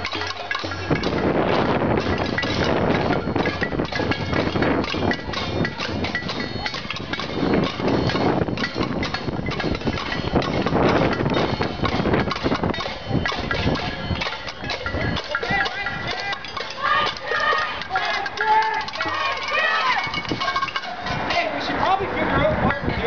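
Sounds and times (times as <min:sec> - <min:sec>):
crowd banging pots and pans: 0:00.0 - 0:23.0.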